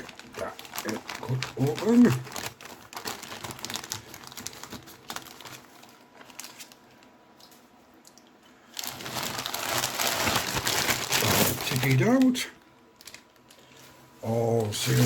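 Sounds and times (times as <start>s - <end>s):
plastic bag crinkling: 0.0s - 7.2s, 8.7s - 15.0s.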